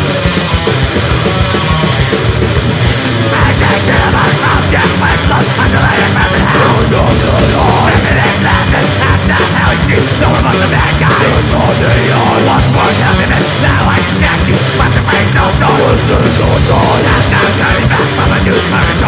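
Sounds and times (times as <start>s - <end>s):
heavy metal music: 0.0s - 19.0s.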